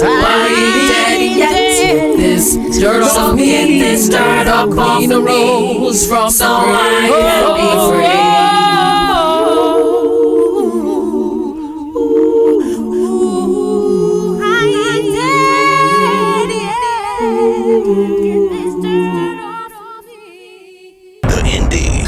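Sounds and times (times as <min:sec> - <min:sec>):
voices singing in harmony: 0:00.0 - 0:21.2.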